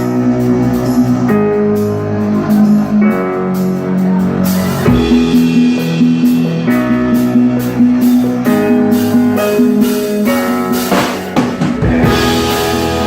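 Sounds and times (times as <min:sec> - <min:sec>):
guitar chords ringing: 0:00.0 - 0:13.0
rock band playing: 0:00.0 - 0:13.0.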